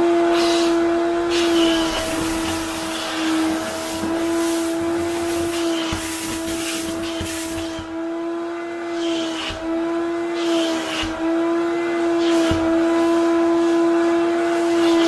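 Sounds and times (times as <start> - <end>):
wet vacuum cleaner running: 0.0 - 15.0.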